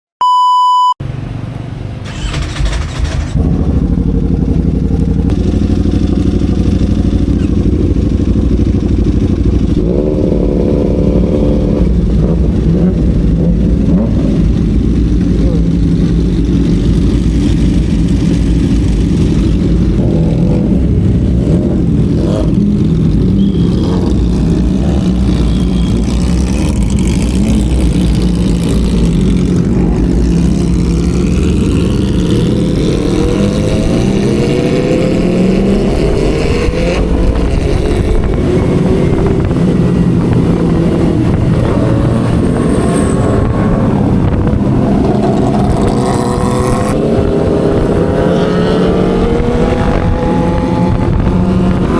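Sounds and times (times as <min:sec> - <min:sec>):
loud motorcycle engine running: 0:02.1 - 0:51.9.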